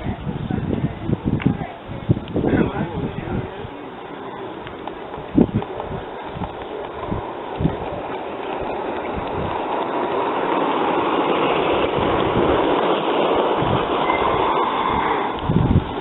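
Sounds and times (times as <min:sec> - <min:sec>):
model train wheels rumbling: 0:00.0 - 0:16.0.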